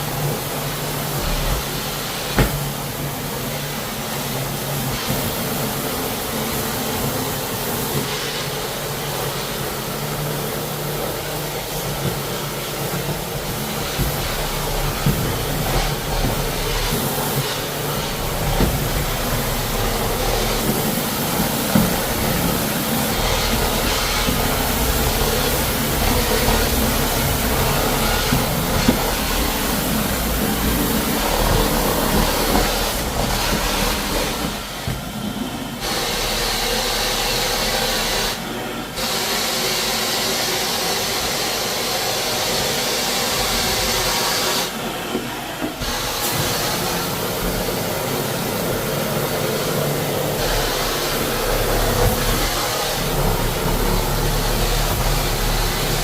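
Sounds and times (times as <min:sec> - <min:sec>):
floor cleaner motor hum: 0:00.0 - 0:56.0
loud hiss of spraying: 0:00.0 - 0:56.0.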